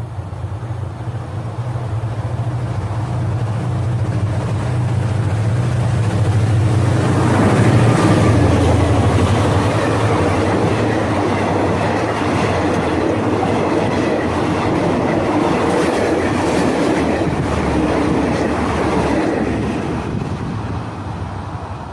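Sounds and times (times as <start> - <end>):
low engine hum: 0.0 - 21.9
train wheels clattering over rail joints: 1.0 - 21.0.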